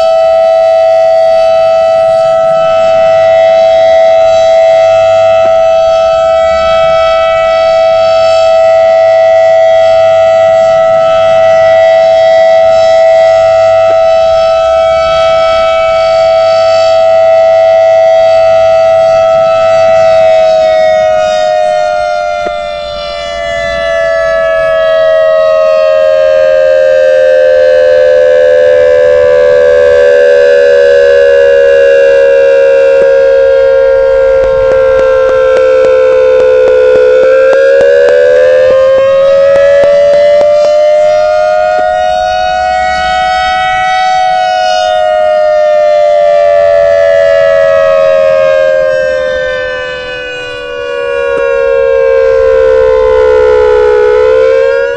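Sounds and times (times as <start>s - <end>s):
electronic tornado siren: 0.0s - 54.9s.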